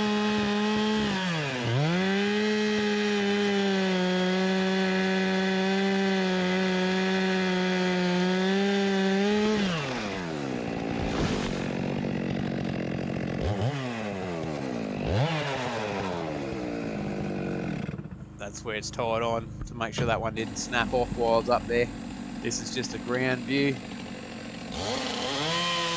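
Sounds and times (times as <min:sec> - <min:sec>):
chainsaw cutting and revving: 0:00.0 - 0:18.4, 0:20.0 - 0:25.9.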